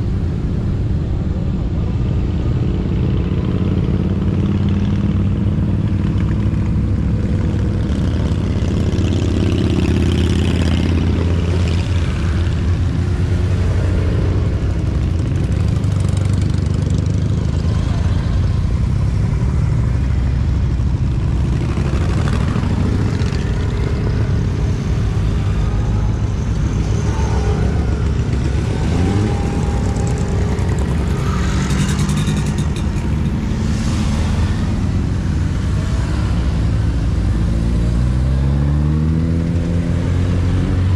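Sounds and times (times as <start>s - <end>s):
motorcycle engines revving: 0.0s - 40.9s
motorcycles riding past: 2.0s - 40.9s.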